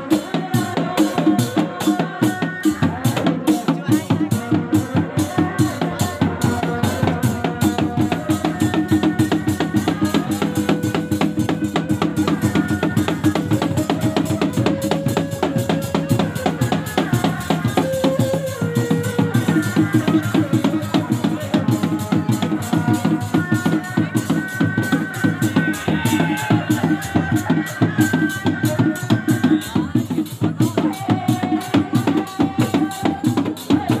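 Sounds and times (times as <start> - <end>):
fast drumming: 0.0 - 34.0.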